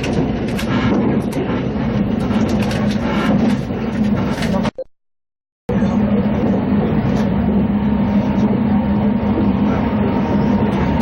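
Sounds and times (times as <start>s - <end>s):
train rumbling from on board: 0.0s - 4.7s, 5.7s - 11.0s.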